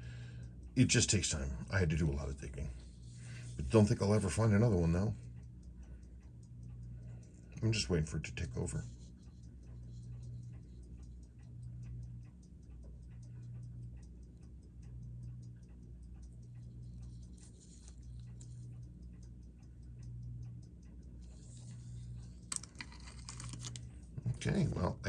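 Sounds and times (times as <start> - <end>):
low hum: 0.0 - 24.6
watch ticking: 0.0 - 25.0.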